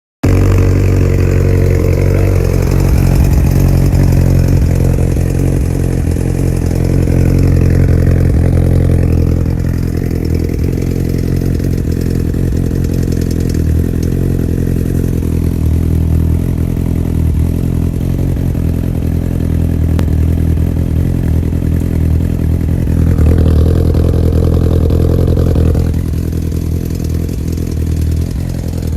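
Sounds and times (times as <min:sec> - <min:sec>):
motorcycle engine idling: 0:00.2 - 0:28.9.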